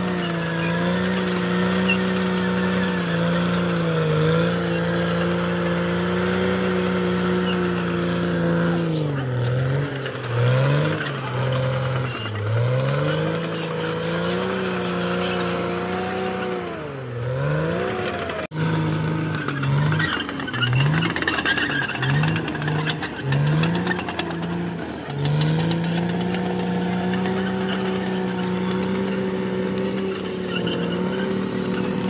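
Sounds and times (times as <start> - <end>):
bulldozer diesel engine under load: 0.0 - 32.0.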